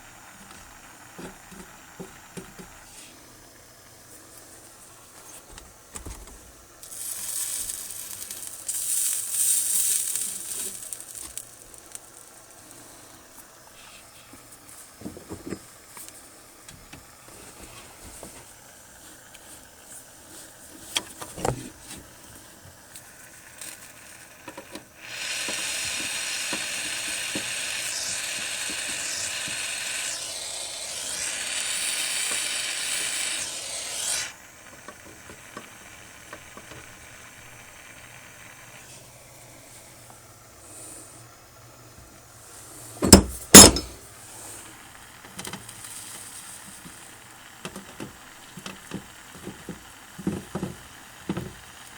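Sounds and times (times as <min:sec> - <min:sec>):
gas torch hissing: 0:00.0 - 0:51.9.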